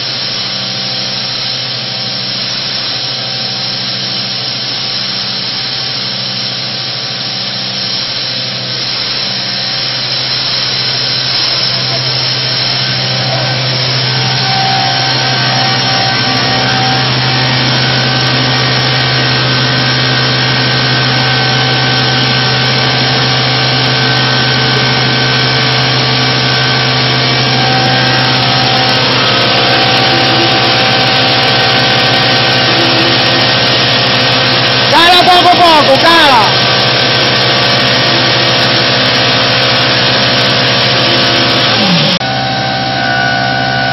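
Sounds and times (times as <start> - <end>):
pneumatic grain conveyor humming: 0.0 - 43.9.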